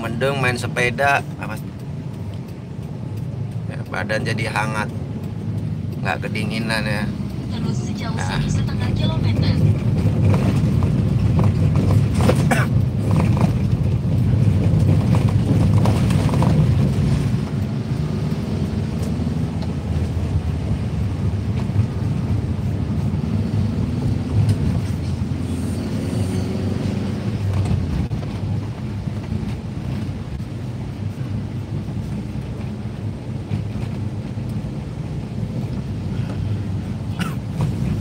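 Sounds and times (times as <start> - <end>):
car engine rumble: 0.0 - 38.0
tyres on wet road: 0.0 - 38.0.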